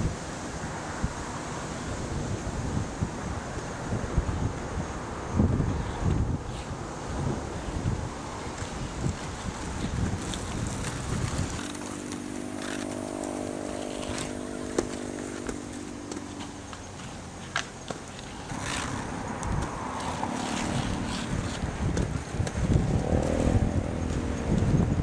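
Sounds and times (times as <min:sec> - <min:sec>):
motor vehicle engine hum: 0:00.0 - 0:25.0
skate wheels rolling on asphalt: 0:00.0 - 0:25.0
wind rumbling on microphone: 0:00.0 - 0:25.0.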